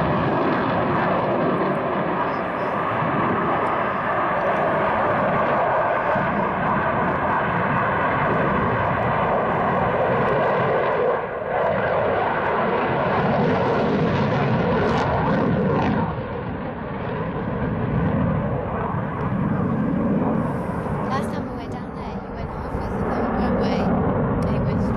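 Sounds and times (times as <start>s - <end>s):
fighter jet engine noise: 0.0s - 24.9s.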